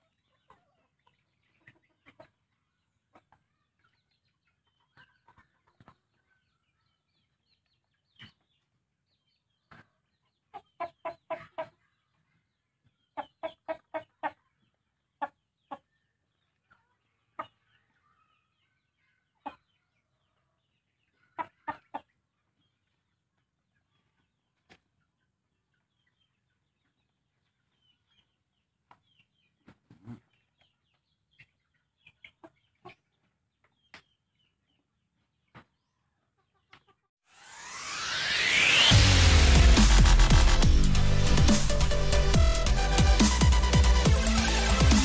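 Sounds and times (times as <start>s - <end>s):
chickens clucking: 0.0s - 37.1s.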